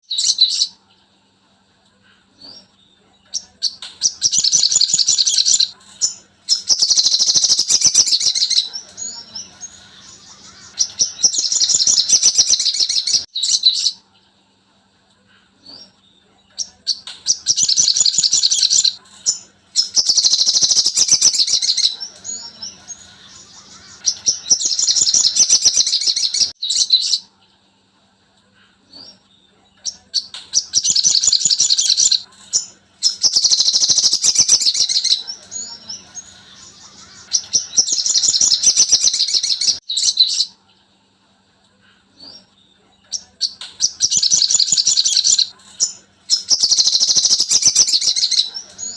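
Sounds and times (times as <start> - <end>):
faint low hum: 0.1 - 48.9
songbird chattering trills: 2.2 - 14.0, 15.6 - 27.2, 28.8 - 40.5, 42.1 - 48.9.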